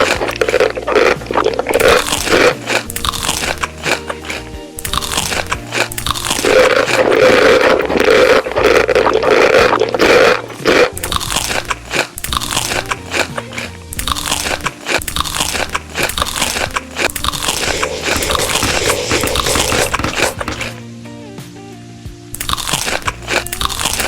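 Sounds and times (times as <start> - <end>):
chewing crisp food: 0.0 - 20.8, 22.4 - 24.0.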